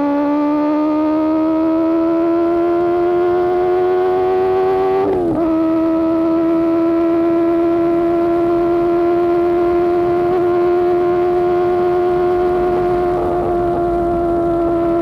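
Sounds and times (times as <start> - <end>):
superbike engine at high revs: 0.0 - 15.0.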